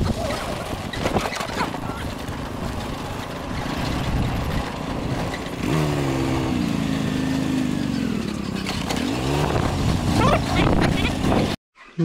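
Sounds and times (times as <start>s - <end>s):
motor scooter running: 0.0s - 11.6s
road and wind rumble: 0.0s - 11.6s
steady engine hum: 0.1s - 11.6s.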